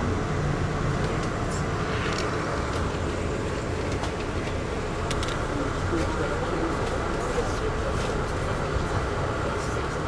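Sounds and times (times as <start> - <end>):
rail car rumbling on track: 0.0 - 10.0.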